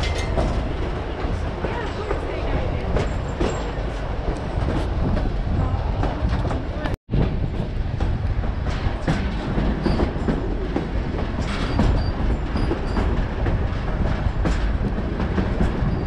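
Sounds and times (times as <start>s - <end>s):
train rumbling over rails: 0.0s - 16.0s.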